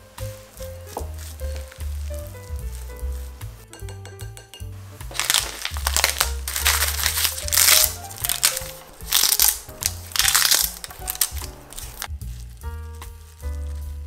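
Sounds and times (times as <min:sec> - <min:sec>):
seaweed sheets crackling: 0:00.0 - 0:03.6, 0:04.9 - 0:14.0
background music: 0:00.0 - 0:14.0.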